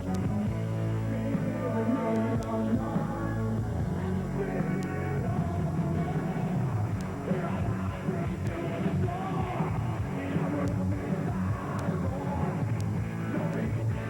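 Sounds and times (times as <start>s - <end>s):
heavy metal band playing: 0.0s - 14.0s.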